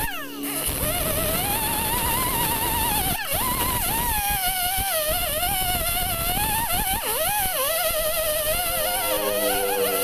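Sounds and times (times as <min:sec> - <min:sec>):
air grinder whining on rubber: 0:00.0 - 0:10.0.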